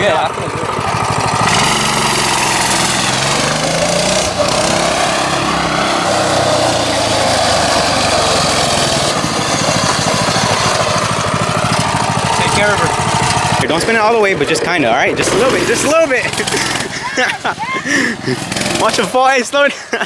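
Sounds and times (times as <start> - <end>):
small engine running: 0.0 - 19.4.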